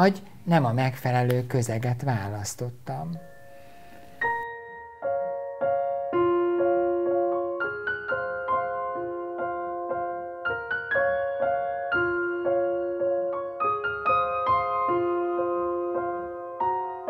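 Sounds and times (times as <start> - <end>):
soft piano music: 1.3 - 17.0.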